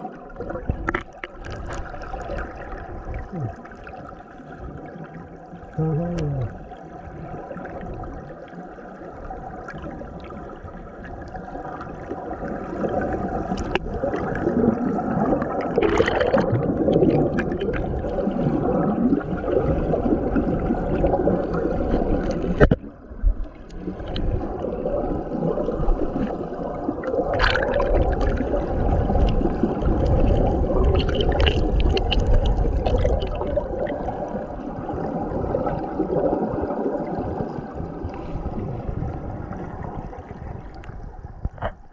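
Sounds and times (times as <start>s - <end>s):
stream water rushing and gurgling: 0.0s - 41.0s.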